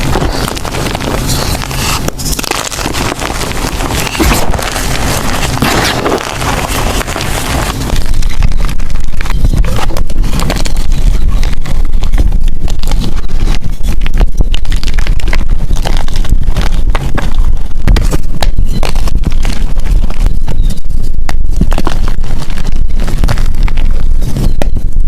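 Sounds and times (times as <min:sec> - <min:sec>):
chalk being crushed: 0:00.0 - 0:24.9.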